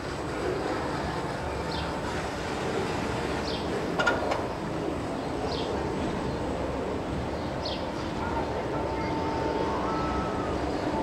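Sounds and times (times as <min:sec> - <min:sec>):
ride machinery humming: 0:00.0 - 0:11.0.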